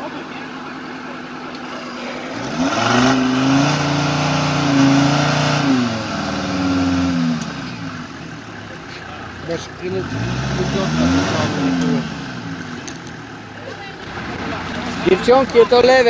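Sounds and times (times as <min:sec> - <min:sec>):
buggy engine revving hard: 0:01.6 - 0:16.0.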